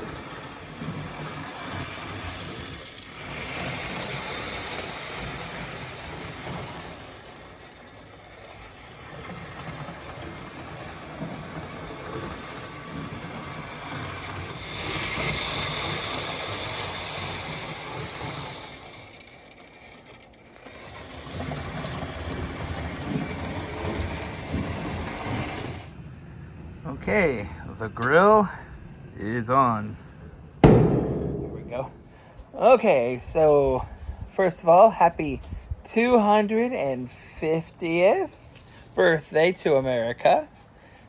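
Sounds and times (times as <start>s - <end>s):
model locomotive running on track: 0.0s - 30.3s, 35.9s - 41.0s.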